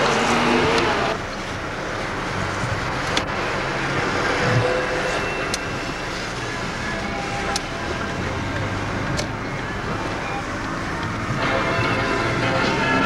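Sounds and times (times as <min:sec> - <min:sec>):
engine hum: 0:00.0 - 0:13.0
road and tyre noise: 0:00.0 - 0:13.0.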